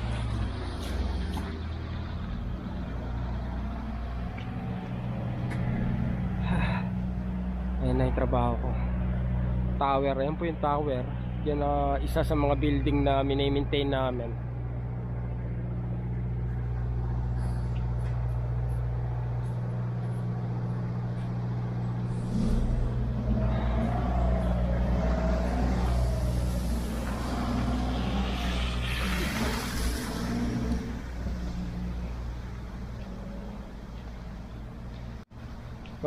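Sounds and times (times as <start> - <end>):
wavering engine whine: 0.0 - 35.8
traffic engine hum: 0.0 - 36.0.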